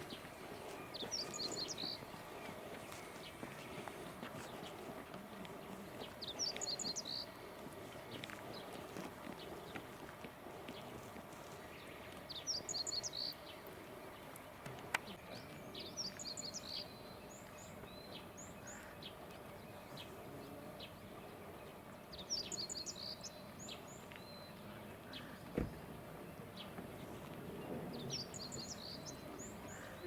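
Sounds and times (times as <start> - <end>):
small songbird singing: 0.0 - 4.8, 5.6 - 9.8, 11.7 - 14.4, 15.0 - 30.0.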